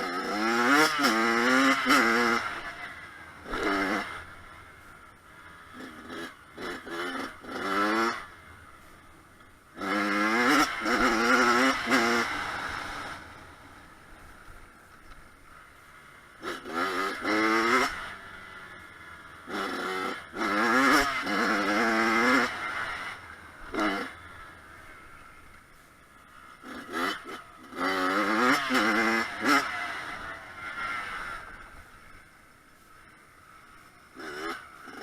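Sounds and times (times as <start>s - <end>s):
dirt bike engine revving: 0.0s - 25.5s, 26.1s - 35.0s.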